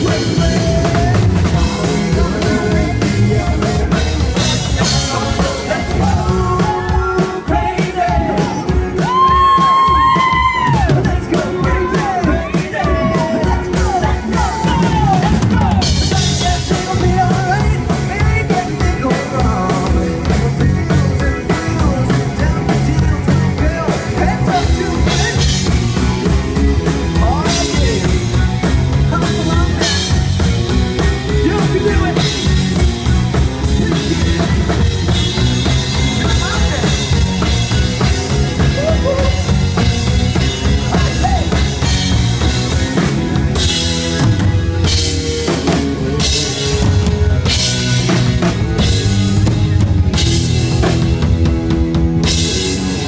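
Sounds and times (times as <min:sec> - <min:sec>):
person singing: 0:00.0 - 0:42.5
drum-kit beat: 0:00.0 - 0:53.0
live rock band playing: 0:00.0 - 0:53.0.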